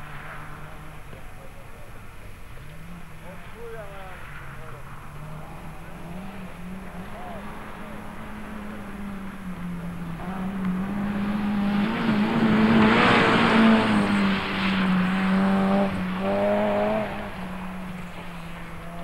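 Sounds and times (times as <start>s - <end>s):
rally car engine passing: 0.0s - 19.0s.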